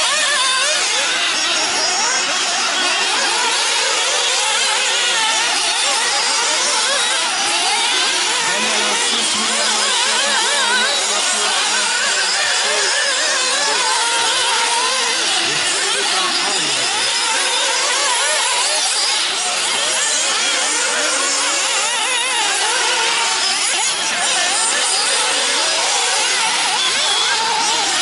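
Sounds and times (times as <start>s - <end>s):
small engines revving: 0.0s - 28.0s.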